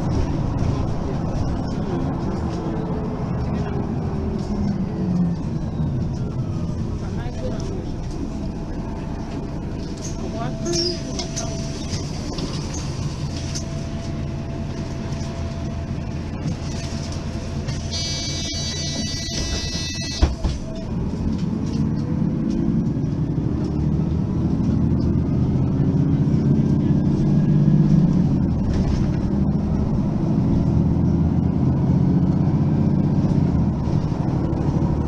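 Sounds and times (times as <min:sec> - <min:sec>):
bus diesel engine pulling away: 0:00.0 - 0:35.0.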